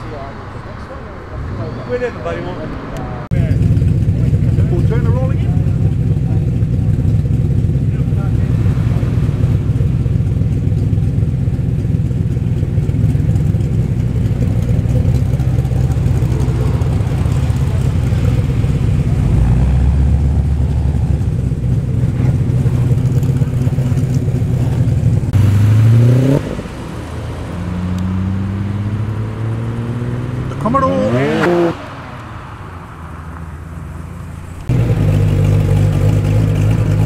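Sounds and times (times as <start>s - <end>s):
car accelerating away: 0.0s - 37.0s
car engine revving: 0.0s - 37.0s
muscle car engines rumbling: 0.0s - 37.0s.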